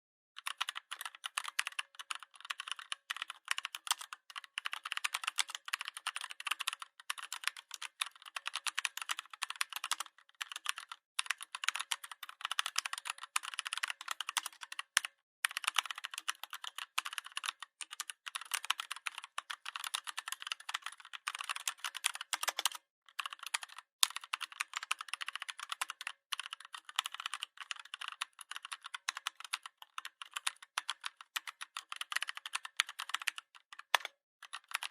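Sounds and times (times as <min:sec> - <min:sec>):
fast typing on keyboard: 0:00.4 - 0:34.9.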